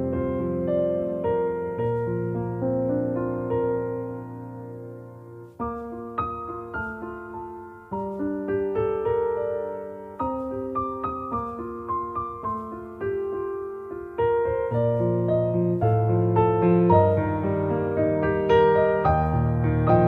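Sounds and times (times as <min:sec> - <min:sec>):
slow solo piano melody: 0:00.0 - 0:20.0.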